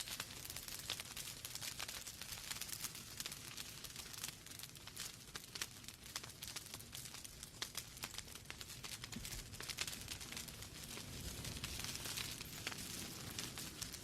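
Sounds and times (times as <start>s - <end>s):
logs crackling and popping: 0.0s - 14.0s
low rumble of flames: 0.0s - 14.0s.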